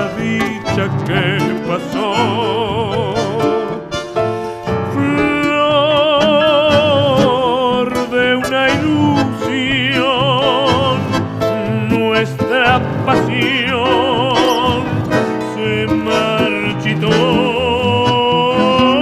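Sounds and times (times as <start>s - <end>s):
person singing tango song: 0.0s - 19.0s
tango accompaniment: 0.0s - 19.0s.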